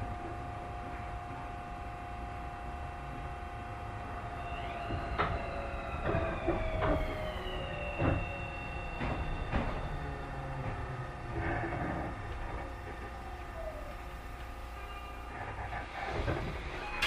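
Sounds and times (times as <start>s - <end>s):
train motor whine: 0.0s - 17.0s.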